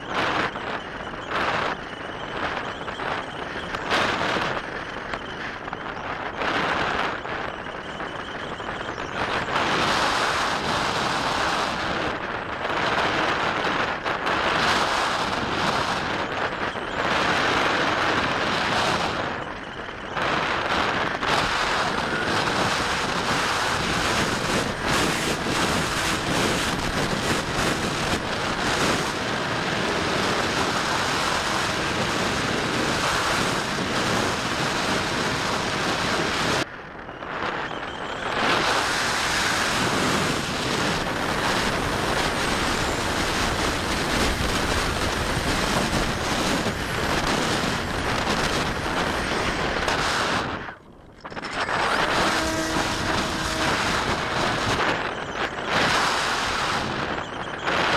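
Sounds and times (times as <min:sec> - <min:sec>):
wind rushing over microphone: 0:00.0 - 0:57.9.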